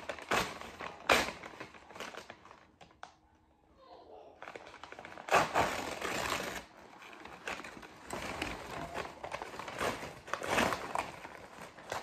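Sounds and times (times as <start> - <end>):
plastic sleeve crinkling: 0.0 - 3.2, 4.4 - 12.0.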